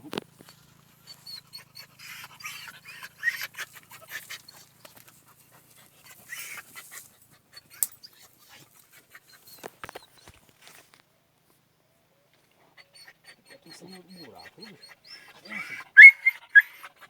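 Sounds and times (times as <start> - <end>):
dog panting: 0.4 - 10.2, 12.8 - 17.0.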